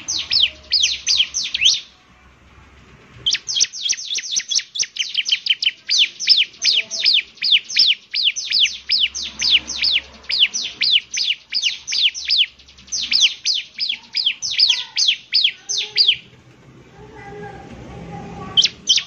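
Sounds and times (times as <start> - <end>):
bird singing rapid high notes: 0.0 - 2.0, 3.2 - 16.3, 18.6 - 19.0.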